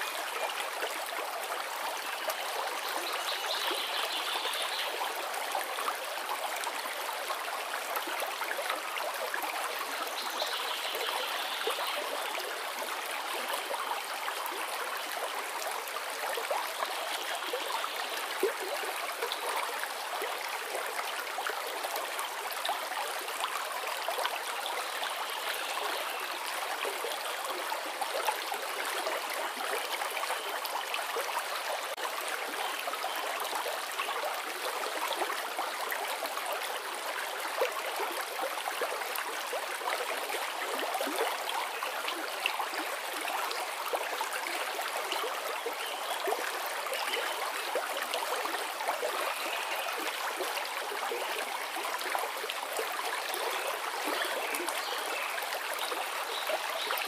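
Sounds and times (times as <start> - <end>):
shallow stream babbling: 0.0 - 57.0.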